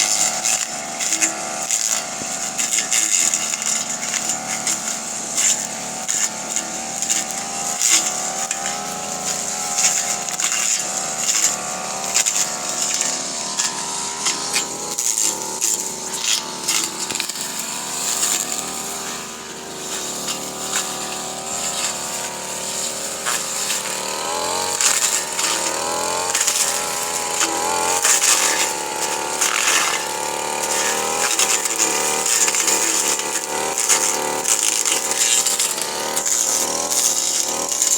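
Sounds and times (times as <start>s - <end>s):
brush cutter engine running: 0.0s - 37.9s
grass stalks snapping: 6.1s - 37.9s.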